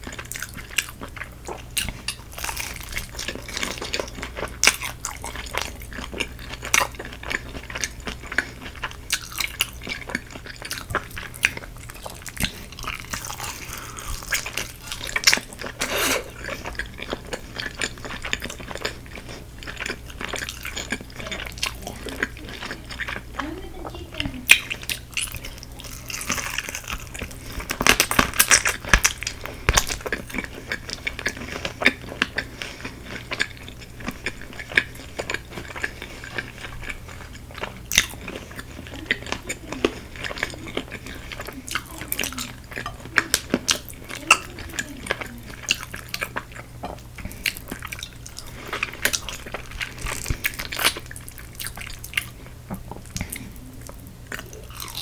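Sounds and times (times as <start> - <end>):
crunching and chewing fried chicken: 0.0 - 55.0.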